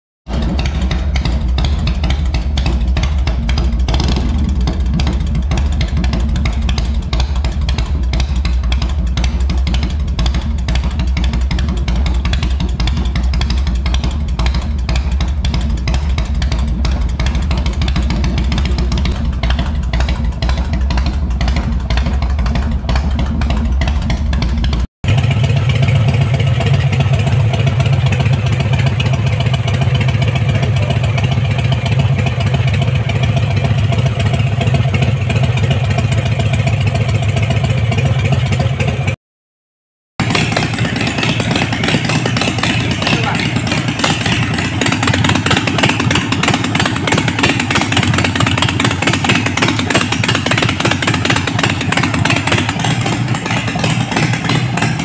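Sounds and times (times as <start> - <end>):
motorcycle exhaust higher note: 0.3 - 24.2, 25.1 - 39.1, 40.2 - 55.0
motorcycle exhaust low pulses: 0.3 - 39.2, 40.2 - 55.0.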